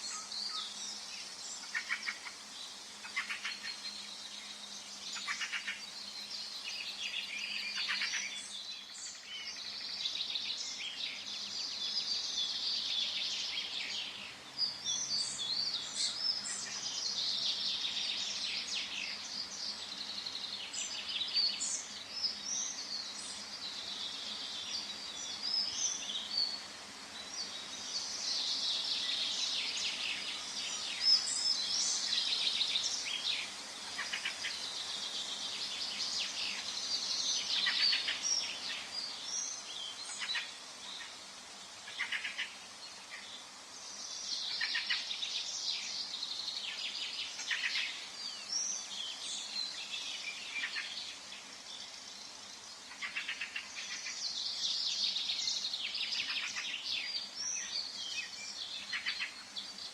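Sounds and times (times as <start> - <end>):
faint background hiss: 0.0 - 59.9
songbirds chirping: 0.0 - 59.9.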